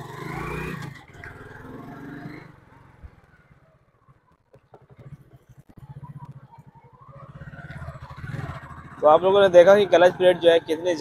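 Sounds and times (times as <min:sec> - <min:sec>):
motorcycle engine pulling away: 0:00.0 - 0:03.6, 0:04.3 - 0:11.0.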